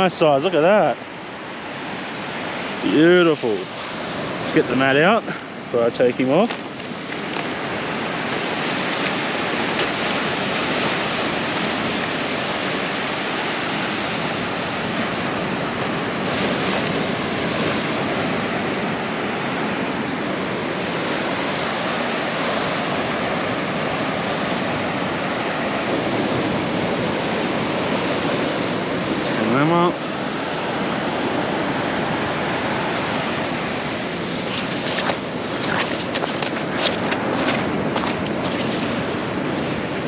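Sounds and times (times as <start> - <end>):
surf breaking on beach: 2.2 - 40.0.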